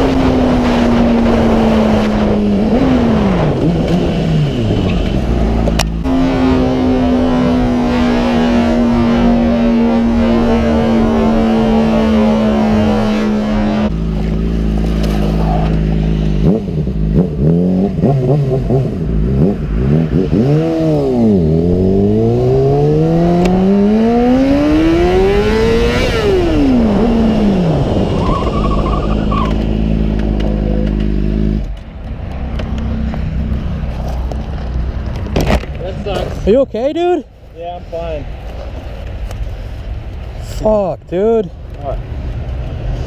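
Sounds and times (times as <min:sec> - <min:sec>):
motorcycle engine revving: 0:00.0 - 0:36.4.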